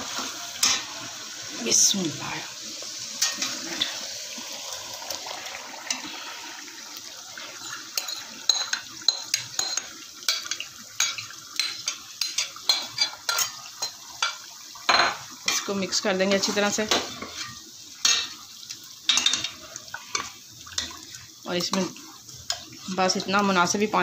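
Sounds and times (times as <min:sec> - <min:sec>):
oil and tomatoes sizzling in a pan: 0:00.0 - 0:24.0.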